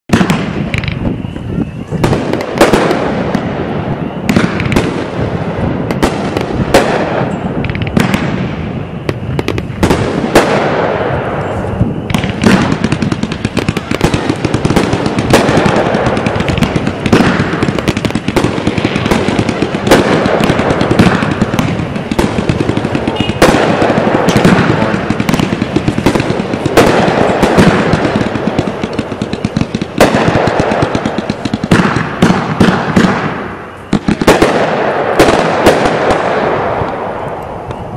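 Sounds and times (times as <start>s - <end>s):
fireworks bursting reports: 0.1s - 37.9s
fireworks fountain rushing: 0.2s - 37.9s.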